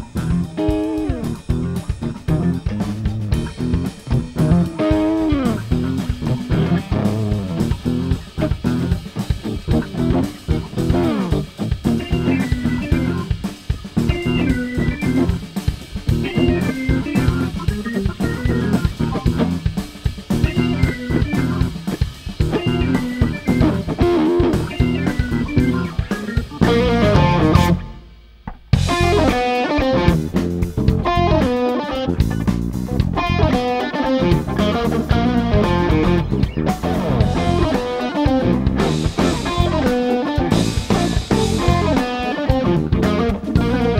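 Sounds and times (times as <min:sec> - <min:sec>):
drawbar organ: 0:00.0 - 0:28.0, 0:28.8 - 0:43.9
bass guitar: 0:00.0 - 0:43.9
drum kit: 0:00.0 - 0:43.9
electric guitar: 0:00.0 - 0:43.9.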